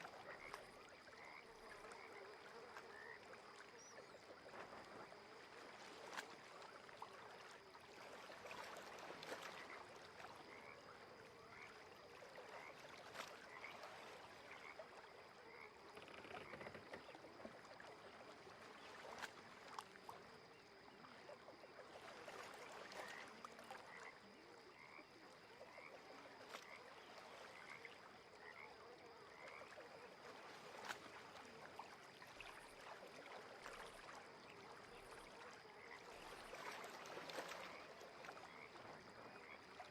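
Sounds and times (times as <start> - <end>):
faint water: 0.0 - 39.9
frogs chirping: 0.0 - 39.9.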